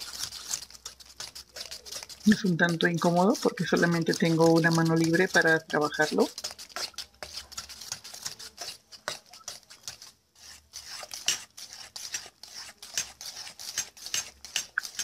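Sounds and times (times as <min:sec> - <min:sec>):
utensil beating batter in metal bowl: 0:00.0 - 0:15.0.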